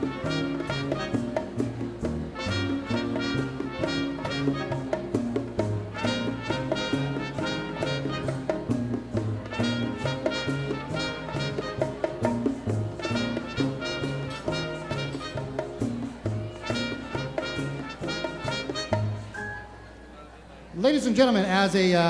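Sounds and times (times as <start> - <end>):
bass line: 0.0 - 19.3
trumpets and trombones: 0.0 - 19.7
percussion rhythm: 0.0 - 19.8.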